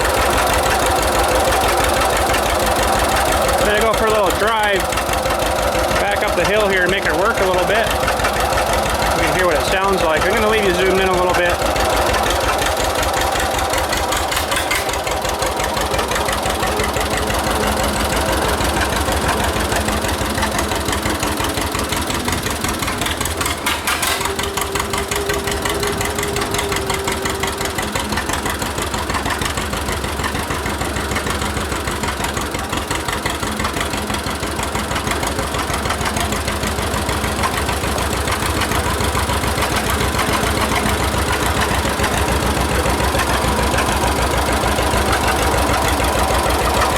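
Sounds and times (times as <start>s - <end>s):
tractor engine pulsing exhaust: 0.0s - 46.9s.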